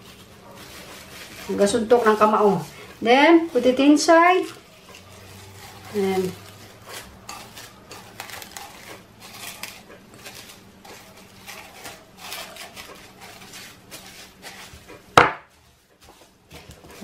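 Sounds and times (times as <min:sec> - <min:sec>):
plastic sheet crinkling: 0:00.0 - 0:17.0.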